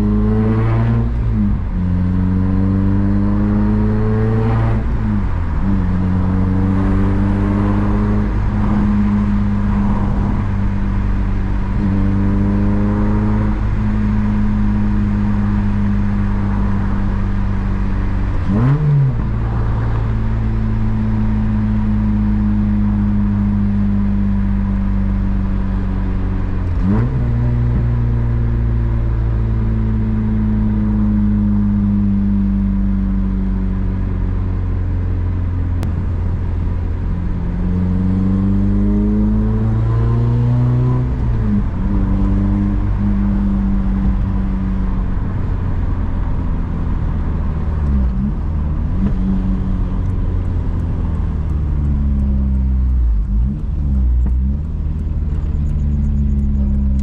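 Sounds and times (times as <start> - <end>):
car engine and exhaust driving: 0.0 - 57.0.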